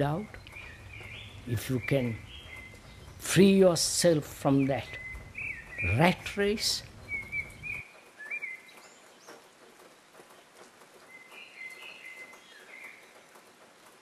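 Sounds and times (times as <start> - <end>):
quiet hiss: 0.0 - 14.0
songbirds chirping faintly: 0.0 - 14.0.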